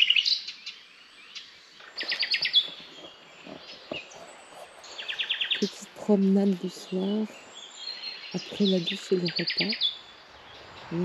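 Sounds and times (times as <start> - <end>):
soft bird chirps: 0.0 - 11.0
songbirds singing: 0.0 - 11.0.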